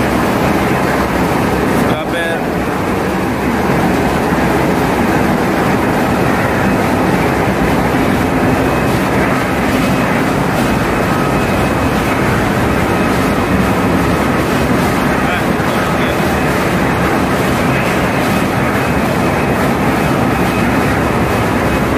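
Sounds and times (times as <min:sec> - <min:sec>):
engine room machinery din: 0:00.0 - 0:21.9
faint steady whines: 0:00.0 - 0:21.9.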